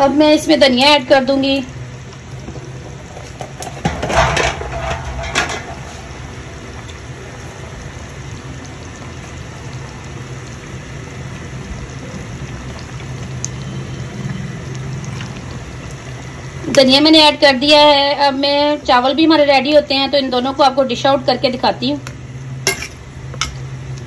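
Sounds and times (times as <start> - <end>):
gravy bubbling in a pan: 0.0 - 24.0.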